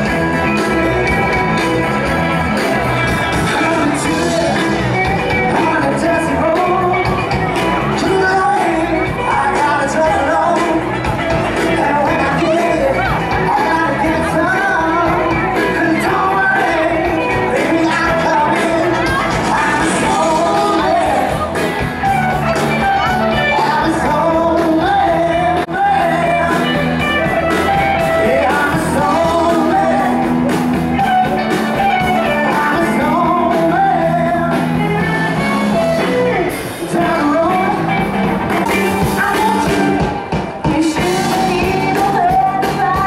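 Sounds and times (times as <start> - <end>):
lead singer singing: 0.0 - 43.0
live rock band playing: 0.0 - 43.0.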